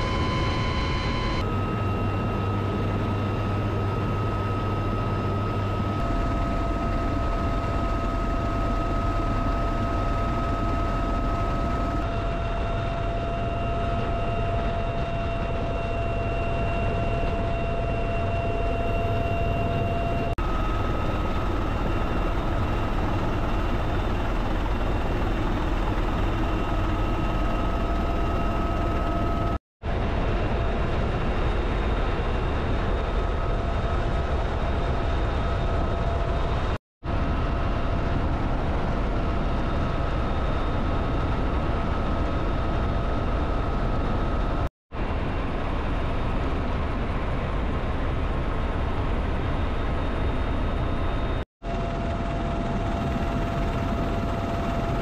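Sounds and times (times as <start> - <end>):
helicopter low drone: 0.0 - 55.0
high engine whine: 0.0 - 55.0.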